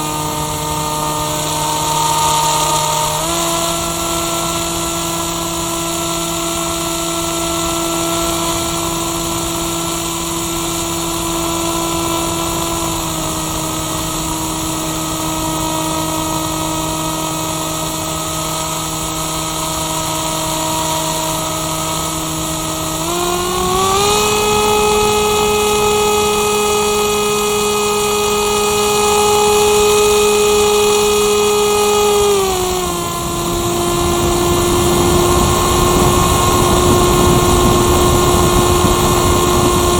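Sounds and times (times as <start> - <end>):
model glider motor whining: 0.0 - 39.9.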